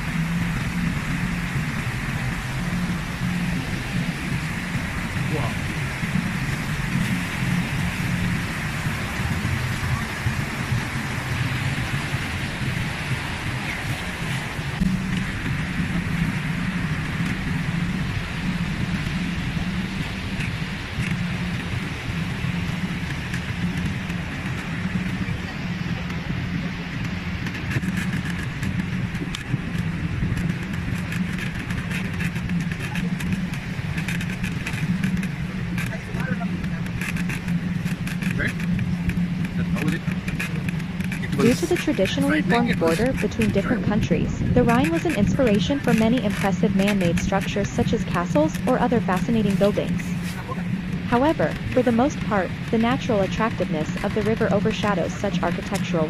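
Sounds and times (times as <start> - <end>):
boat motor humming: 0.0 - 56.0
waterfall thundering: 0.0 - 56.0.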